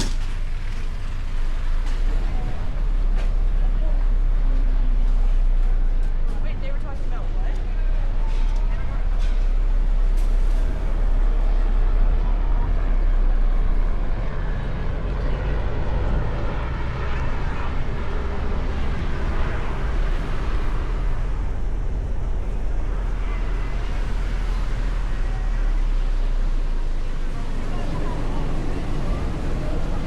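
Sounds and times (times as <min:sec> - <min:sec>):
wind road and engine rumble: 0:00.0 - 0:30.0.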